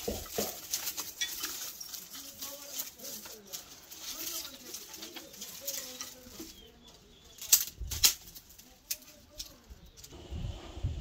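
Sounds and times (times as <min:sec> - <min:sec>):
twigs rustling and snapping: 0:00.0 - 0:10.2.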